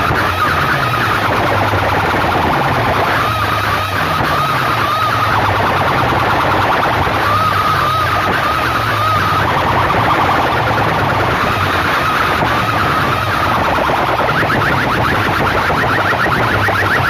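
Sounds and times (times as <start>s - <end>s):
distorted warbling siren effect: 0.0s - 17.0s.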